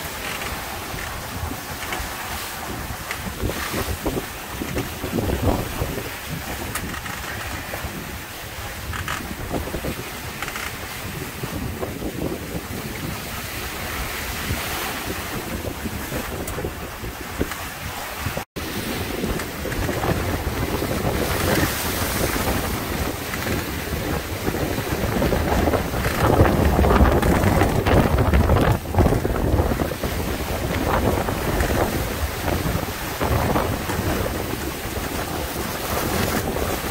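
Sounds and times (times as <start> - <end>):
water rushing past hulls: 0.0 - 36.9
wind buffeting microphone: 0.0 - 36.9.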